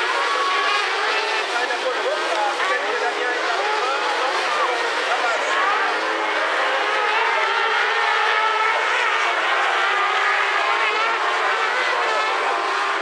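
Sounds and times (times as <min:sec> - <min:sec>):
race buggy engines revving: 0:00.0 - 0:13.0.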